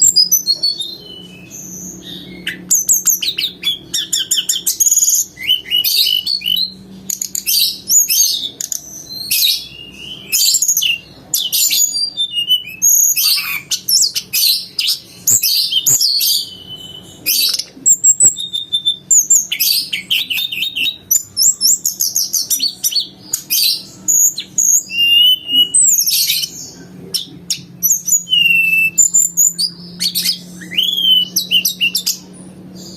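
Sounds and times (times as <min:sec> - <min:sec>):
faint low hum: 0:00.0 - 0:32.9
songbird twittering and trilling: 0:00.0 - 0:32.9.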